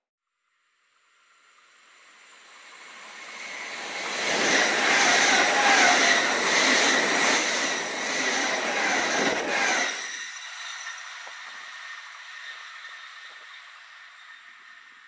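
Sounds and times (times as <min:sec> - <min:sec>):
high-speed train passing: 0:01.8 - 0:15.0.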